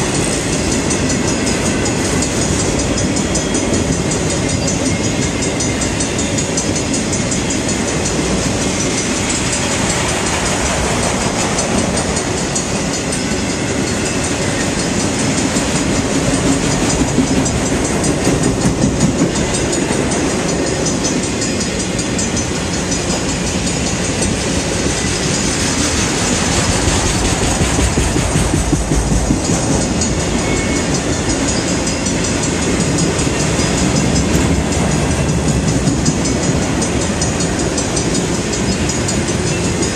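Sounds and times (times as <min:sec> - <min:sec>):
train cars rumbling and rattling: 0:00.0 - 0:39.9
wheels clicking over rail joints: 0:00.0 - 0:39.9.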